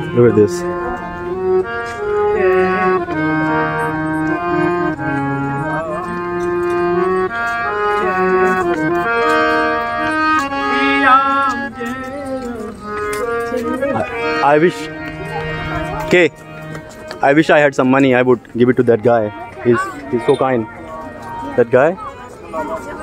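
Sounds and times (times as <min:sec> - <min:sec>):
harmonium playing a melody: 0:00.0 - 0:23.0.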